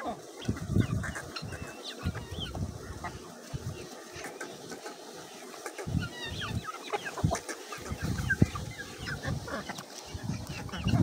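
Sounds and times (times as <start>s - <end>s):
chickens clucking and chirping: 0.0s - 11.0s.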